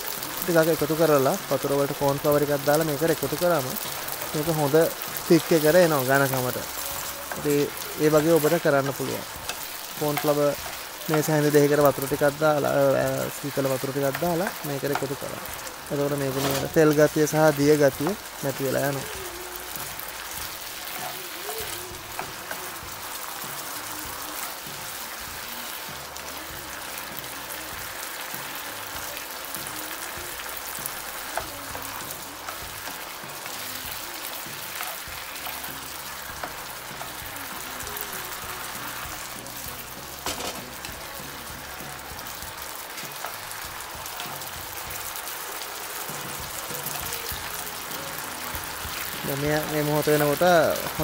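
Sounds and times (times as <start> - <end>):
meat sizzling in a frying pan: 0.0 - 51.0
spatula stirring: 2.5 - 26.1, 26.8 - 45.2.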